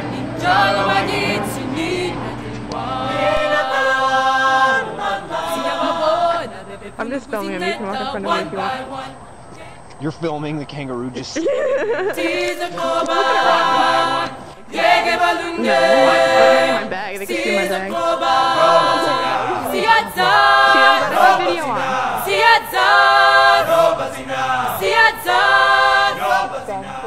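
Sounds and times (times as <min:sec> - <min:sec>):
choir singing a cappella: 0:00.0 - 0:10.0, 0:11.8 - 0:27.0.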